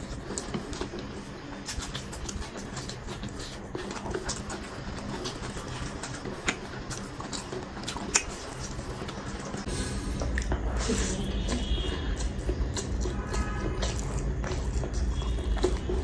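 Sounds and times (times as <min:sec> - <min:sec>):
fingers squishing rice: 0:00.0 - 0:16.0
lip smacks and mouth clicks: 0:00.0 - 0:16.0
man chewing food: 0:00.0 - 0:16.0.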